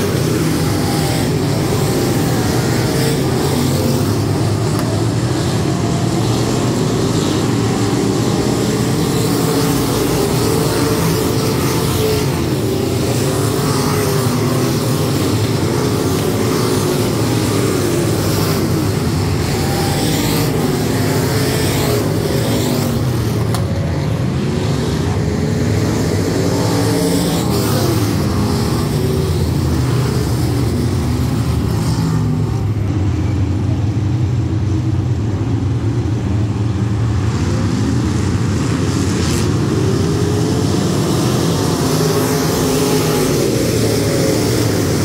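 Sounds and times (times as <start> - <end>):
race car engines droning: 0.0 - 45.0.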